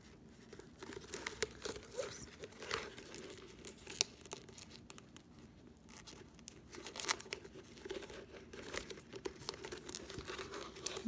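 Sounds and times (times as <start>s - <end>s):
foil duct crinkling: 0.0s - 11.0s.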